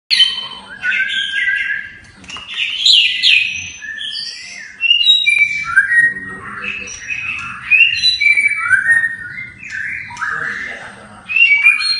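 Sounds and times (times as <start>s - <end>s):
bird singing whistled phrases: 0.1s - 11.9s.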